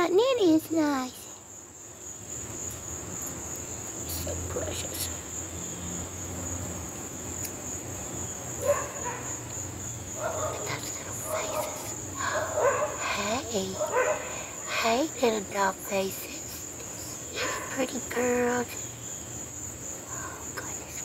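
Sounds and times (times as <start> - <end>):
high-pitched insect trill: 0.0 - 21.0.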